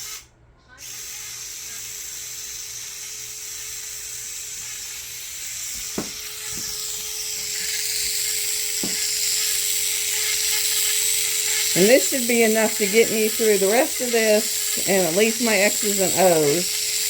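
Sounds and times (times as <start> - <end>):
electric mixer running: 1.0 - 17.0.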